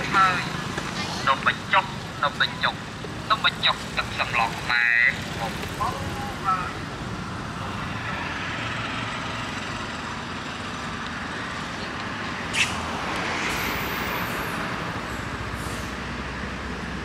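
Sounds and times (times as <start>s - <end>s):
distant road traffic hiss: 0.0s - 17.0s.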